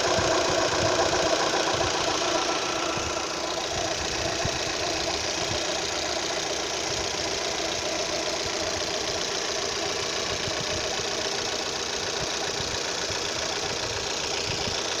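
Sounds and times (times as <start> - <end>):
car engine idling: 0.0 - 15.0
engine knocking noise: 0.0 - 15.0.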